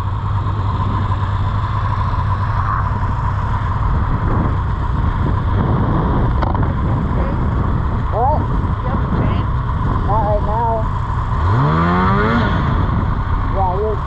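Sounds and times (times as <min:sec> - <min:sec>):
snowmobile engine whining: 0:00.0 - 0:14.0.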